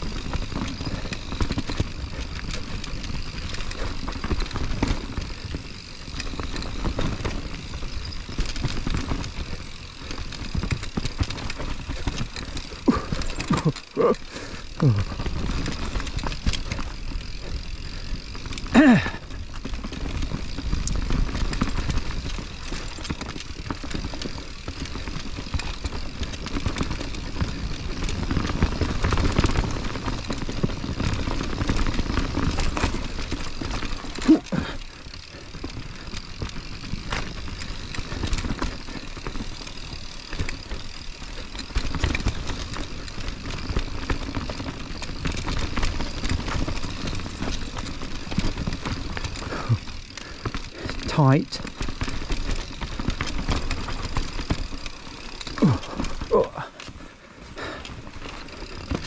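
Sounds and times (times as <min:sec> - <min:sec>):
bike rattling and clicking: 0:00.0 - 0:59.0
tyres rolling on dirt: 0:00.0 - 0:59.0.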